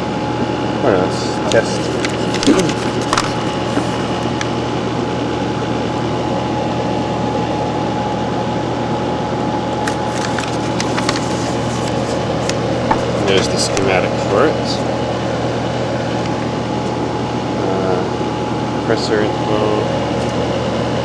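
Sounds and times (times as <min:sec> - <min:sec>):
window air conditioner humming: 0:00.0 - 0:21.0.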